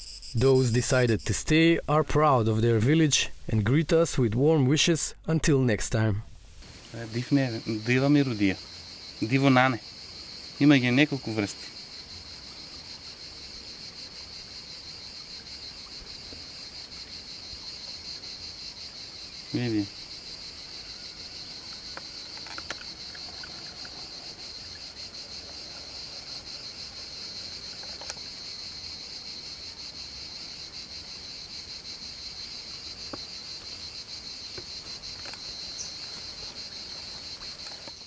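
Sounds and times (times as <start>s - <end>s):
high-pitched insect chorus: 0.0s - 4.0s, 6.0s - 38.0s.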